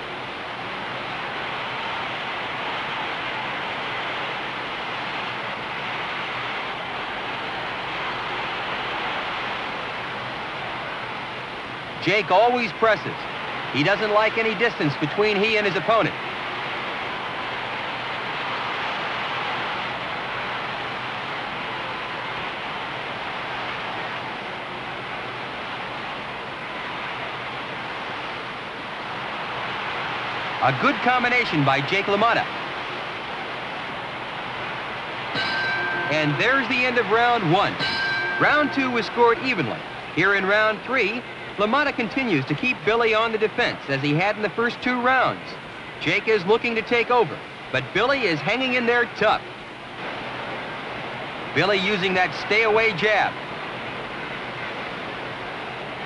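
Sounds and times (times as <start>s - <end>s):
arena crowd noise: 0.0s - 56.0s
soundtrack hiss: 0.0s - 56.0s
steady rushing noise: 0.0s - 56.0s.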